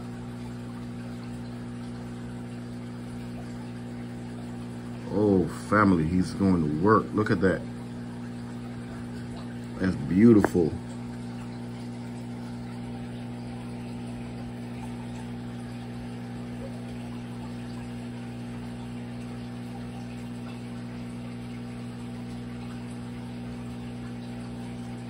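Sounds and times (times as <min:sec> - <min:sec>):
aquarium pump humming: 0:00.0 - 0:25.0
circulating water: 0:00.0 - 0:25.0.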